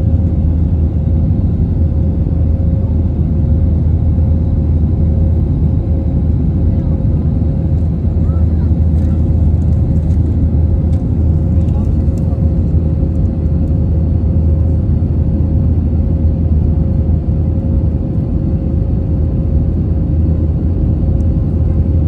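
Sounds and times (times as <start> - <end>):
airplane cabin engine rumble: 0.0 - 22.0
mid-pitched engine hum: 0.0 - 22.0.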